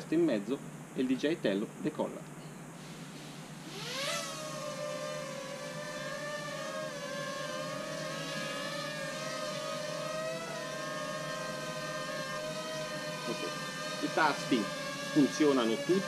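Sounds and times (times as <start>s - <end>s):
drone propellers whining: 2.8s - 16.0s.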